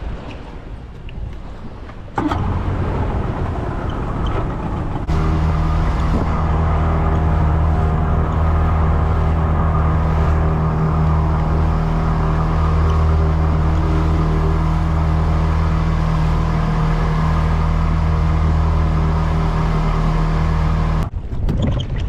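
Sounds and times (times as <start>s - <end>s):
wind noise: 0.0s - 22.0s
boat motor running: 2.2s - 21.1s.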